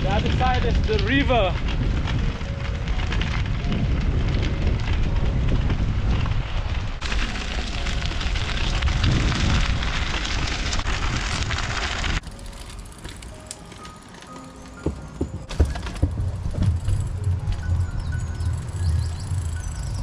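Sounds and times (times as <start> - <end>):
wind rumble on microphone: 0.0 - 12.2, 15.4 - 20.0
bike tyres crunching on gravel: 0.0 - 20.0.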